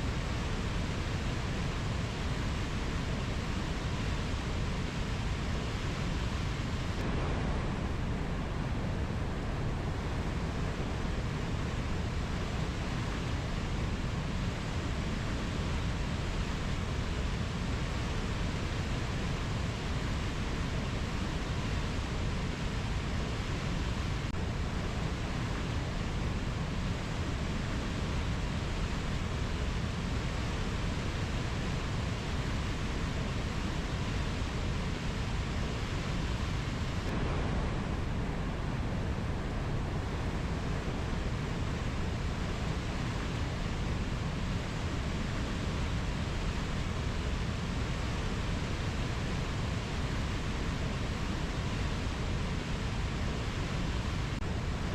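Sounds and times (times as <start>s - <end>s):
rainforest ambience rushing noise: 0.0s - 54.9s.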